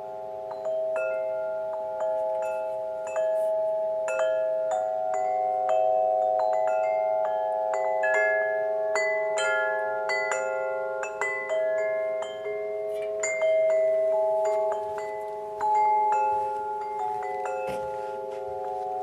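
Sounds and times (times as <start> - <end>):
wind chimes ringing: 0.0 - 19.0.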